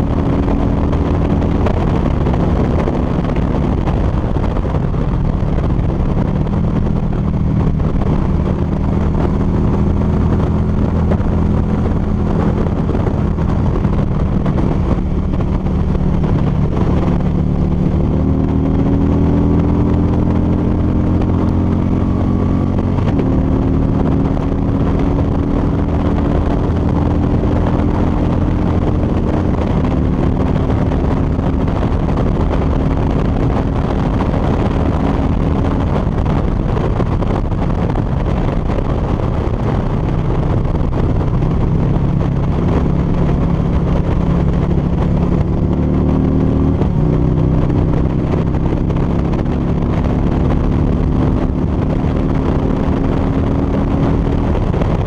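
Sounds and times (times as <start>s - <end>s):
motorcycle engine cruising: 0.0s - 55.0s
wind rushing: 0.0s - 55.0s.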